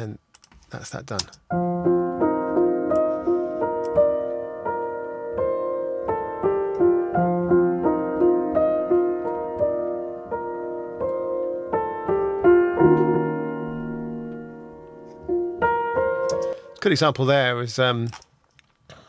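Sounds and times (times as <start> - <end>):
upright piano notes: 1.5 - 17.7.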